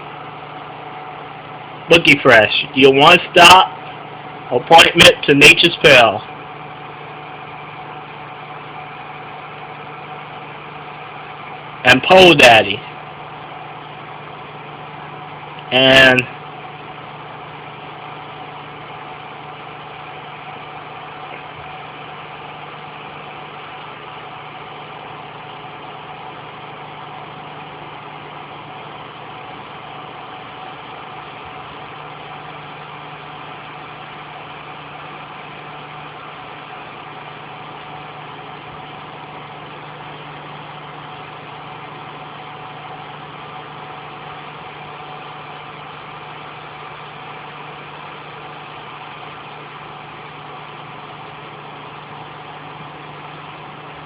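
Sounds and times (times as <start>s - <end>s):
mechanical hum: 0.0s - 54.0s.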